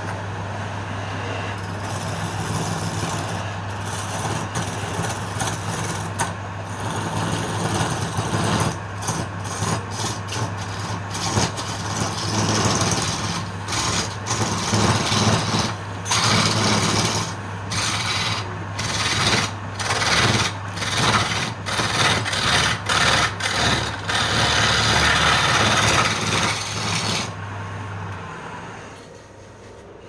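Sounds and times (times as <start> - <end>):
lathe motor hum: 0.0 - 27.7
tool scraping spinning wood: 1.6 - 27.4.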